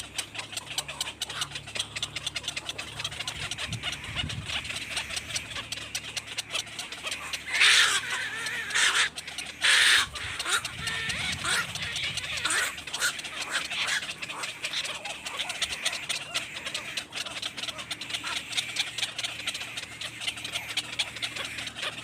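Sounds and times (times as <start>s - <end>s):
bird harsh squawks: 0.0s - 22.0s
birds rapid clicking calls: 0.0s - 22.0s.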